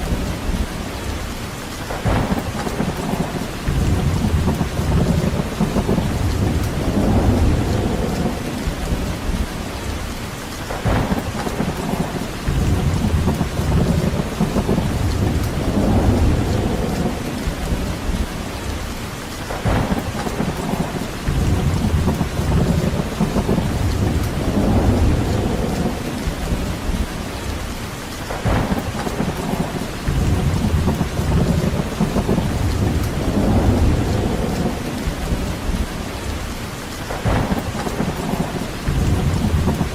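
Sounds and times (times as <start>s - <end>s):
deep rolling thunder rumbles: 0.0s - 39.9s
rain hissing: 0.0s - 39.9s.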